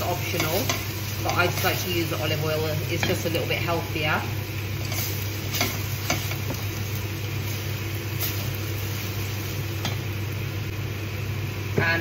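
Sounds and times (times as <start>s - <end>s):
onions sizzling in oil: 0.0s - 12.0s
steady low hum: 0.0s - 12.0s.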